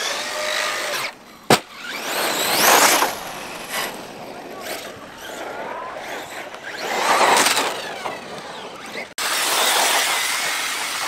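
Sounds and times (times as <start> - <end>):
electric rc car motor whining: 0.0 - 11.0
tyres on dirt: 0.0 - 11.0.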